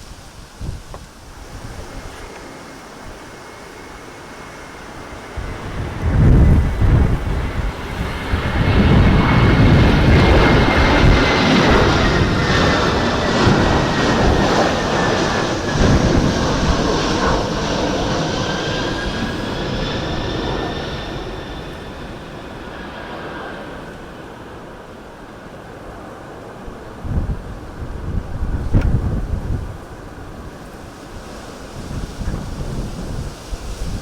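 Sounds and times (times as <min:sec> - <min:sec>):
wind buffeting microphone: 0:00.0 - 0:24.8, 0:25.9 - 0:34.0
jet engines whining and rumbling: 0:00.0 - 0:34.0.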